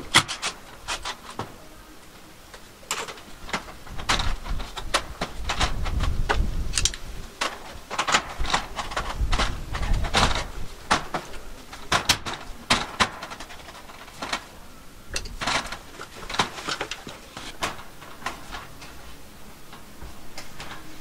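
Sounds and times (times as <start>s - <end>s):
sheet metal clicks and scrapes: 0.0s - 1.8s, 2.5s - 21.0s.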